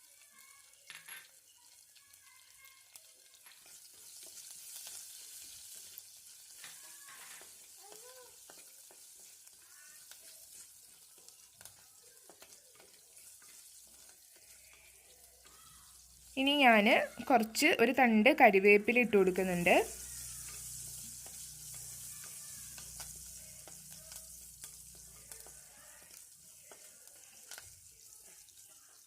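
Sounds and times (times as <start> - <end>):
garlic sizzling in oil: 0.0 - 29.0.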